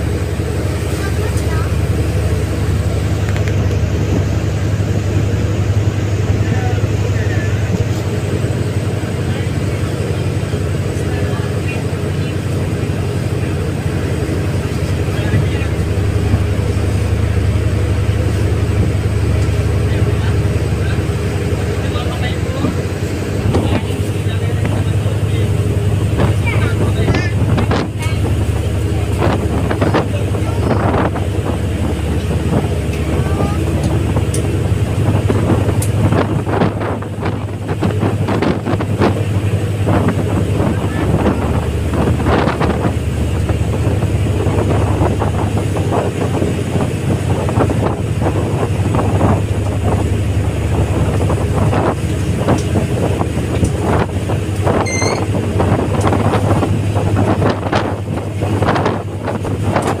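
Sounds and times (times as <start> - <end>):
ferry engines droning: 0.0 - 60.0
wind buffeting microphone: 0.0 - 60.0.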